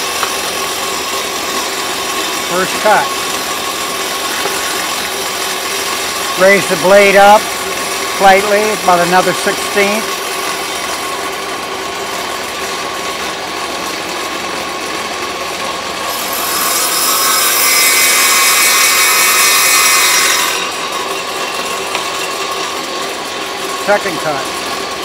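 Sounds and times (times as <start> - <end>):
saw blade cutting wood: 0.0 - 13.3, 15.6 - 25.0
table saw running: 0.0 - 25.0.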